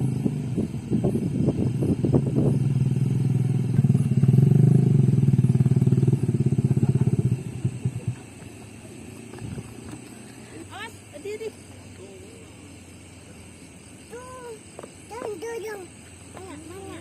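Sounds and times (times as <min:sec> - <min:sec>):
motorcycle engine running: 0:00.0 - 0:15.3.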